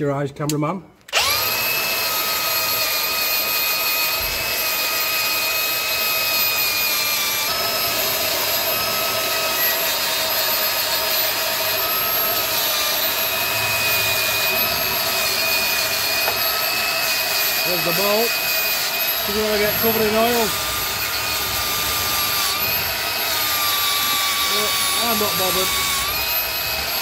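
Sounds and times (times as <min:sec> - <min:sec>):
wire wheel grinder whining: 0:01.1 - 0:27.0.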